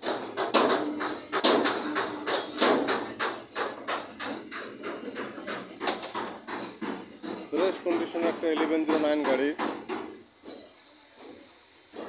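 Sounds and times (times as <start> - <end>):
sharp knocks: 0.0 - 10.2.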